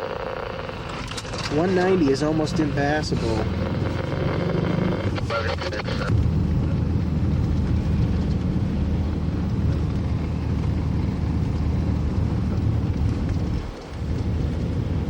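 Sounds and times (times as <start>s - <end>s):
car driving rumble inside cabin: 0.0s - 15.0s.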